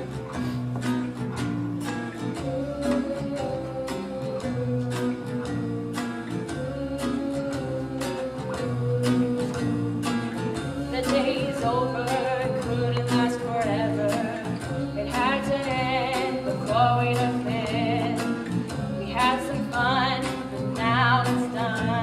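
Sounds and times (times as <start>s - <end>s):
guitar accompaniment: 0.0s - 22.0s
woman singing: 2.3s - 22.0s.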